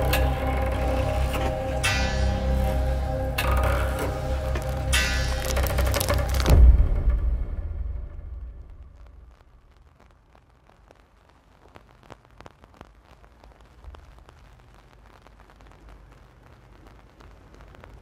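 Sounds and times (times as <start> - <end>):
small fire crackling: 0.0 - 18.0.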